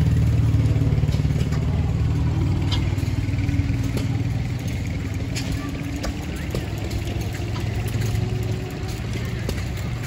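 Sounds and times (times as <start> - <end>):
stationary gas engine rumbling: 0.0 - 10.0.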